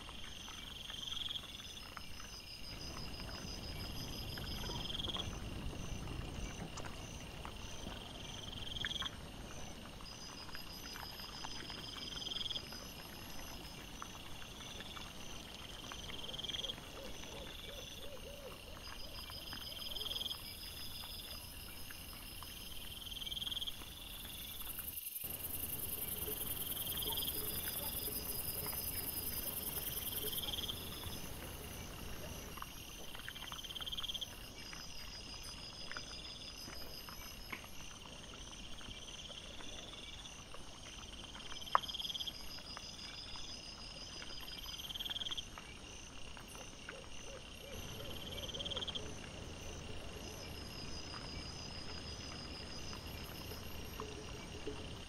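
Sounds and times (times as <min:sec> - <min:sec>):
night insects trilling: 0:00.0 - 0:55.0.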